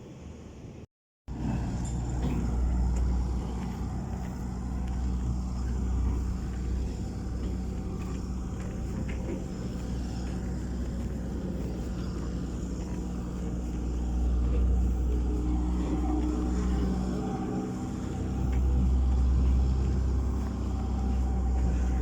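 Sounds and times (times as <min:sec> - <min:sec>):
large engine droning: 0:00.6 - 0:22.0.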